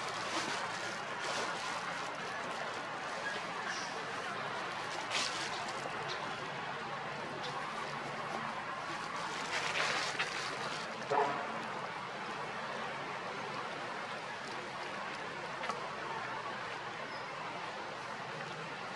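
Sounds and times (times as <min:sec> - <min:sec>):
outdoor background noise: 0:00.0 - 0:18.9.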